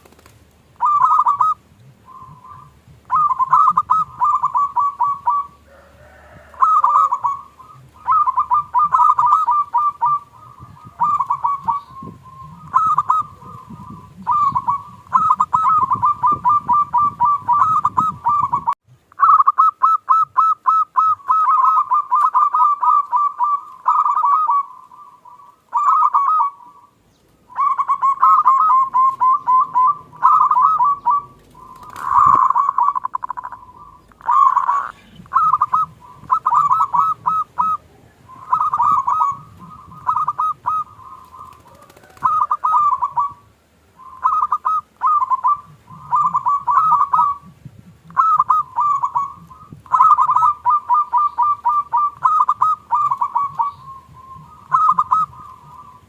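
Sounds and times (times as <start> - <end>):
dove cooing trills: 0.0 - 56.0.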